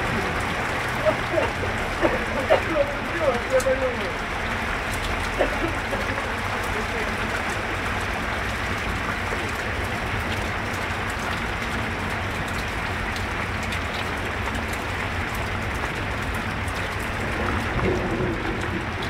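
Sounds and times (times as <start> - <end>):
heavy rain pouring: 0.0 - 19.0
ticks of raindrops: 0.0 - 19.0.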